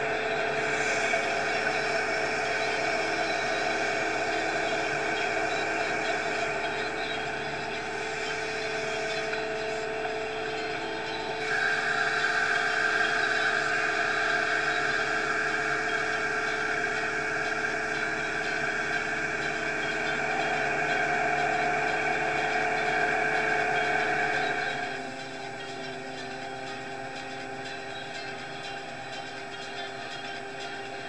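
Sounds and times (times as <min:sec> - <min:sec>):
feed mixer engine running: 0:00.0 - 0:31.0
high whine: 0:00.0 - 0:31.0.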